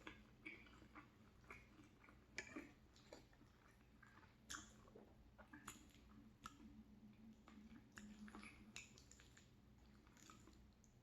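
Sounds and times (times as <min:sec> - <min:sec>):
faint low hum: 0:00.0 - 0:11.0
person chewing food: 0:00.0 - 0:11.0.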